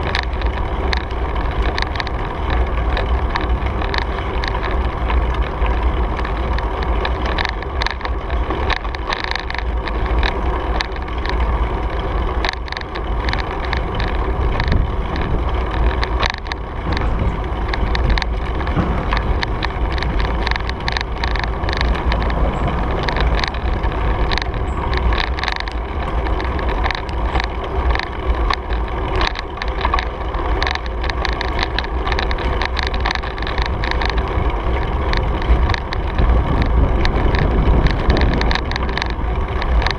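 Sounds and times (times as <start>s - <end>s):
bicycle clicks and rattles: 0.0s - 39.9s
tyres rolling on gravel: 0.0s - 39.9s
wind rumbling on microphone: 0.0s - 39.9s.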